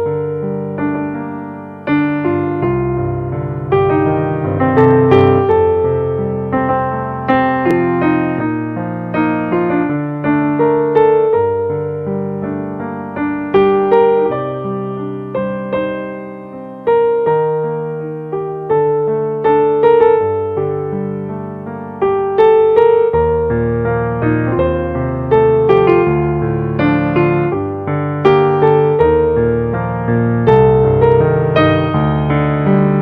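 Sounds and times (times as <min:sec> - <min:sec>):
slow ambient piano music: 0:00.0 - 0:33.0.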